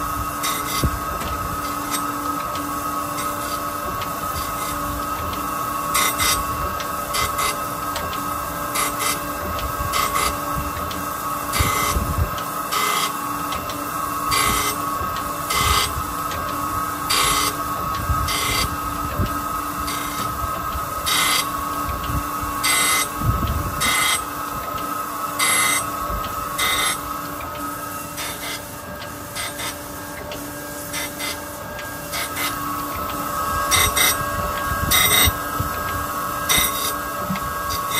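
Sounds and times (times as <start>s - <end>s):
grinding machine humming: 0.0s - 37.9s.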